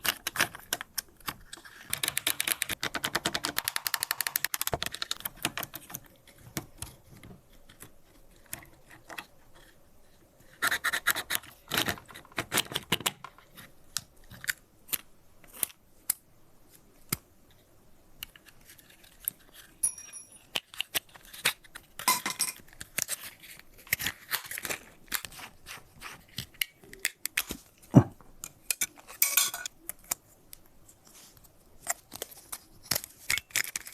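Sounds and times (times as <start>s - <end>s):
plastic parts clicking and scraping: 0.0s - 19.8s, 20.5s - 33.9s.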